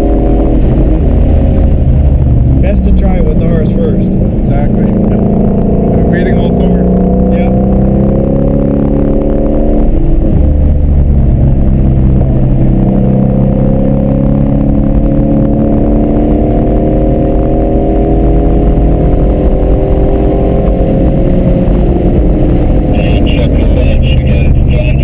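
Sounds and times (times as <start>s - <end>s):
car engine heard from inside: 0.0s - 25.0s.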